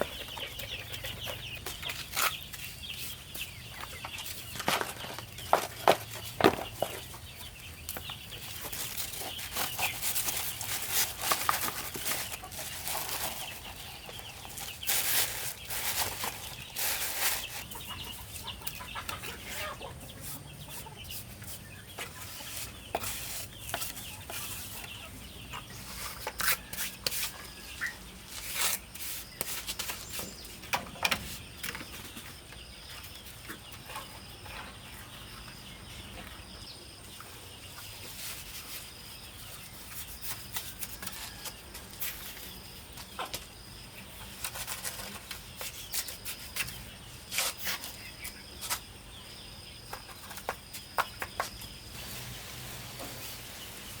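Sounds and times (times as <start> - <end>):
chickens clucking: 0.0 - 28.3, 29.2 - 54.0.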